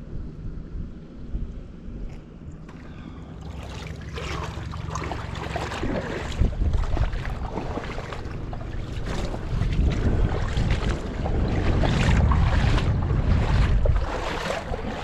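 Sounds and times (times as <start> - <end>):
wind buffeting the microphone: 0.1 - 15.0
river water rushing and splashing: 2.6 - 15.0.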